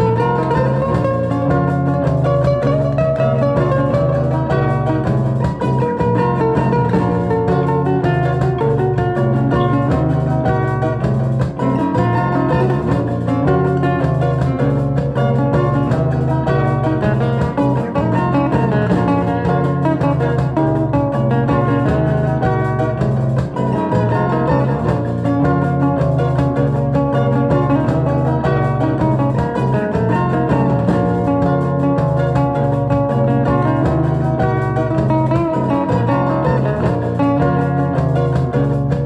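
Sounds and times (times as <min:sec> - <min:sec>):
guitar plucking quick notes: 0:00.0 - 0:39.0
low bass notes: 0:00.0 - 0:39.0.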